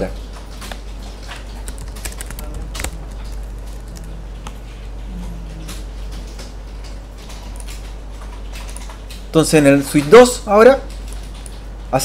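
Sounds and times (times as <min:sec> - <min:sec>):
computer keyboard keystrokes: 0:00.0 - 0:12.0
low steady hum: 0:00.0 - 0:12.0.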